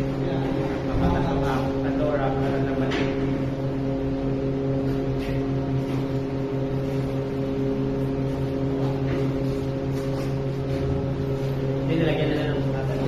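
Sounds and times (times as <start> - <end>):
motor humming drone: 0.0 - 13.0.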